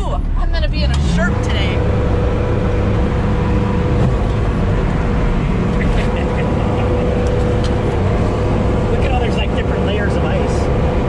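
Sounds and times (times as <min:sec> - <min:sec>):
diesel engine running under load: 0:00.0 - 0:11.0
steady whine: 0:01.2 - 0:11.0.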